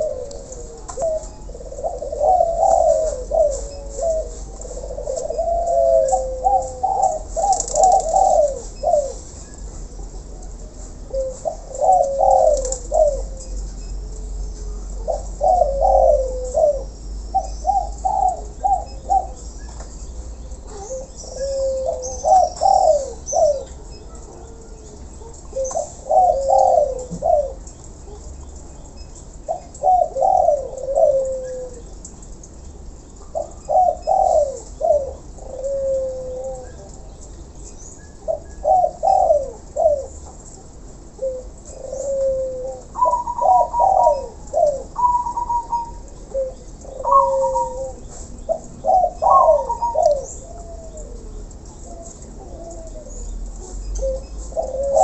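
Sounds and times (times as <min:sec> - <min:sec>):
doves cooing: 0:00.0 - 0:55.0
small birds chirping: 0:00.0 - 0:55.0.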